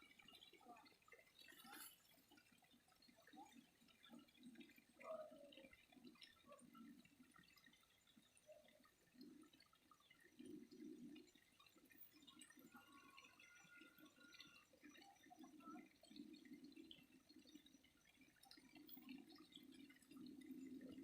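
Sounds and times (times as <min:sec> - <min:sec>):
water flowing and dripping: 0:00.0 - 0:21.0
small ticks: 0:00.2 - 0:21.0.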